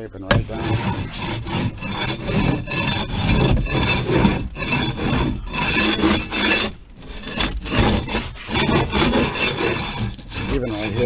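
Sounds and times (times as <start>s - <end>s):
scraper scraping boat floor: 0.2s - 11.0s.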